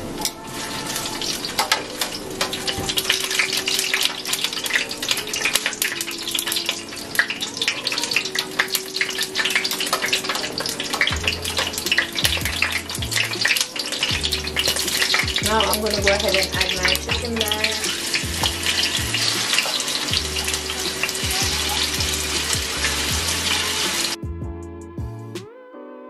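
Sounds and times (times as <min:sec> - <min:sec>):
garlic sizzling in oil: 0:00.0 - 0:24.2.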